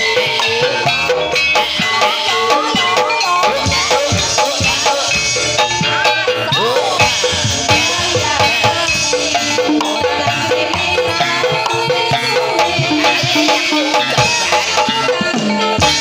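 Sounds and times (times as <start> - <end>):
metallophones playing interlocking notes: 0.0 - 16.0.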